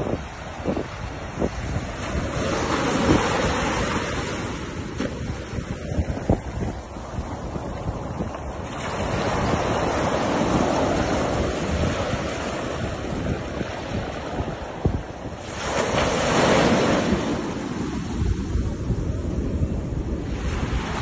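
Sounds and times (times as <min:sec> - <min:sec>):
ocean surf washing onto beach: 0:00.0 - 0:21.0
wind buffeting microphone: 0:00.0 - 0:21.0.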